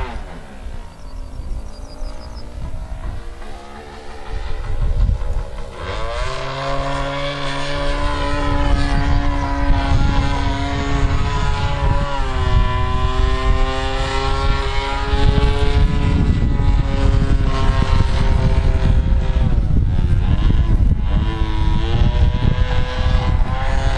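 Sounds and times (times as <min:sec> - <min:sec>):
model aircraft engine buzzing drone: 0:00.0 - 0:23.9.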